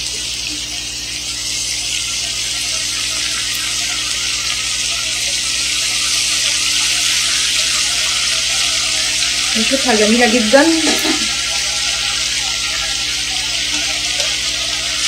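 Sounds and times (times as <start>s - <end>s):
meat and onion sizzling in a pan: 0.0s - 15.0s.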